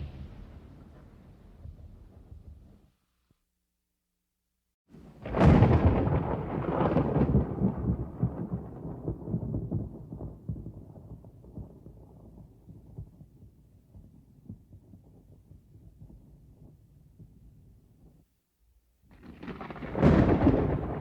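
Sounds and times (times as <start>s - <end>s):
thunder crack and rumble: 0.0s - 2.9s, 5.0s - 18.1s, 19.1s - 21.0s.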